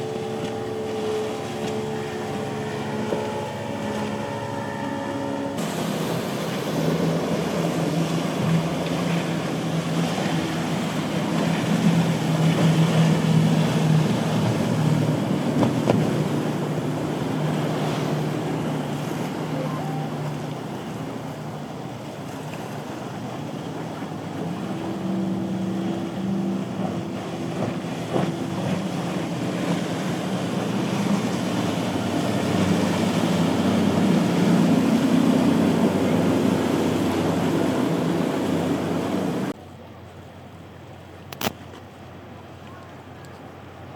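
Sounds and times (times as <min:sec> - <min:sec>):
motorboat engine humming: 0:00.0 - 0:43.9
surf: 0:00.0 - 0:43.9.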